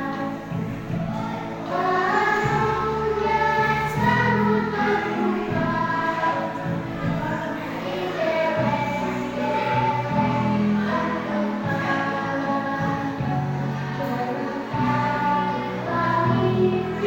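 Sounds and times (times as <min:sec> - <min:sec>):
children singing in chorus: 0:00.0 - 0:17.0
instrumental backing with bass: 0:00.0 - 0:17.0.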